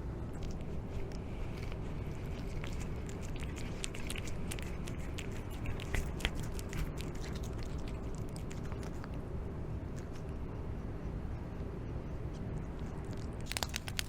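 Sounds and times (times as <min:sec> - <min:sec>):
cats chewing and crunching: 0:00.0 - 0:10.8, 0:12.2 - 0:14.0
low outdoor rumble: 0:00.0 - 0:14.0.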